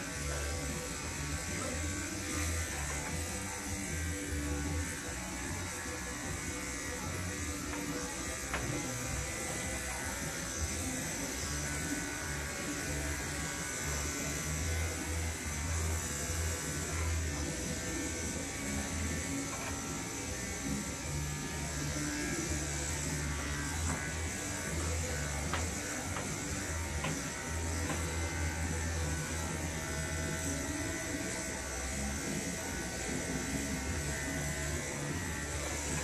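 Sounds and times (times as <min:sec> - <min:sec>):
electric clippers buzzing: 0:00.0 - 0:36.0.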